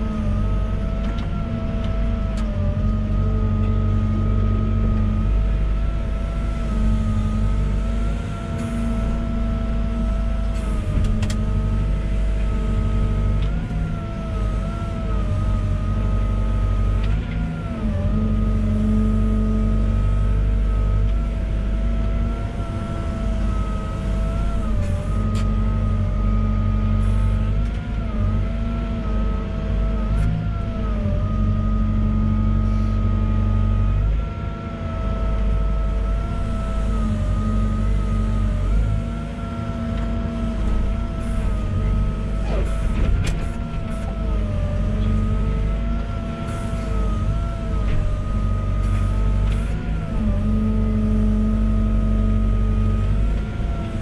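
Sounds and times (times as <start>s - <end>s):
excavator diesel engine running: 0.0s - 54.0s
hydraulic whine bending in pitch: 0.0s - 54.0s.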